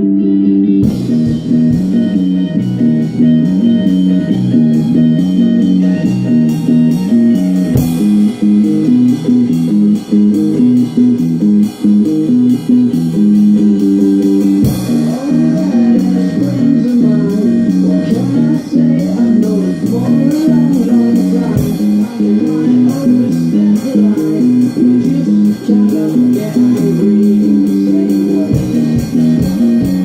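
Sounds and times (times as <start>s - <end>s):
drum kit: 0.0s - 30.0s
rock guitar and bass riff: 0.0s - 30.0s.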